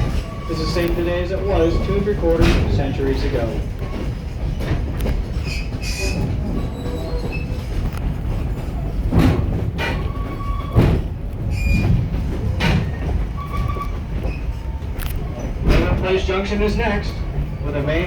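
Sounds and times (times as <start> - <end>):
sharp knocks and clanks: 0.0 - 14.5, 15.4 - 16.2
train wheels rumbling on rail: 0.0 - 18.0.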